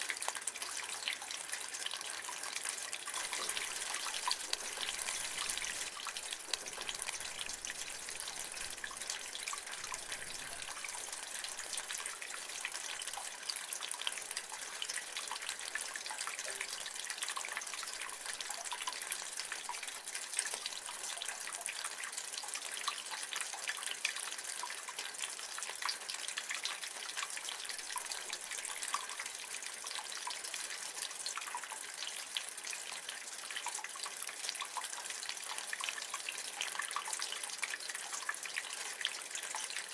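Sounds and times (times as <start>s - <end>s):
rain water running from gutter: 0.0s - 39.9s.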